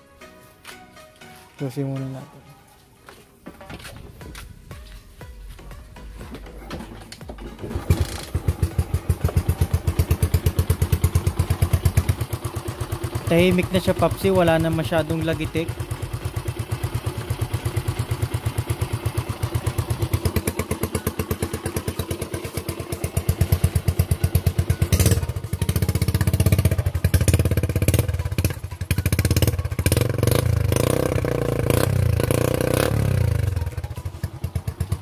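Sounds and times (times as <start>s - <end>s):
motorcycle engine idling and revving: 3.5s - 35.0s.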